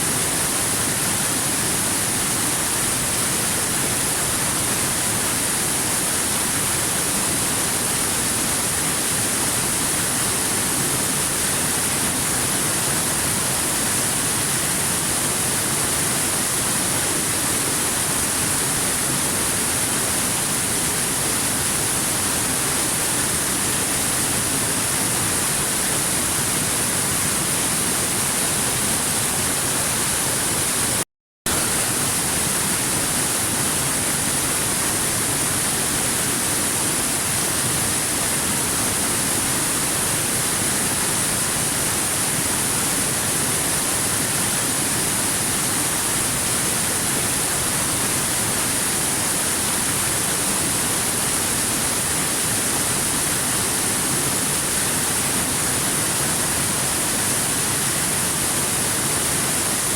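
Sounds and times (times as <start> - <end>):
waterfall rushing: 7.7 - 59.9.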